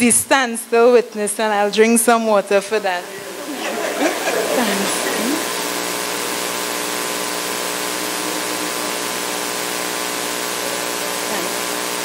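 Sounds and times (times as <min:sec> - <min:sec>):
faint hum: 0:00.0 - 0:12.0
steady hiss: 0:00.0 - 0:12.0.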